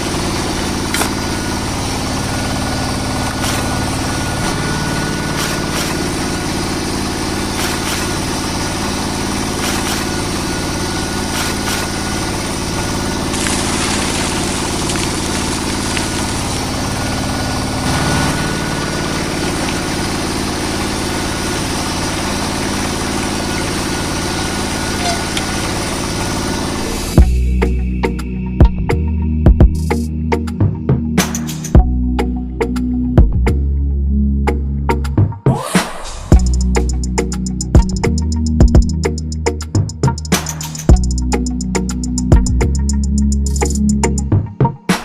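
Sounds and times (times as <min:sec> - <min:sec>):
engine idling: 0:00.0 - 0:28.3, 0:36.3 - 0:44.3.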